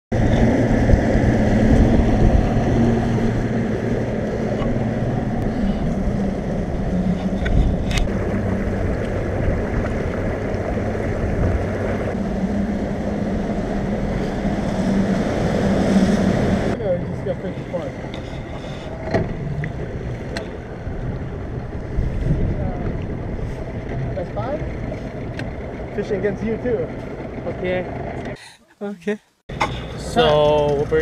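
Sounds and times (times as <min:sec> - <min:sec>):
outboard motor running: 0:00.1 - 0:28.5, 0:29.5 - 0:31.0
water rushing along hull: 0:00.2 - 0:28.3.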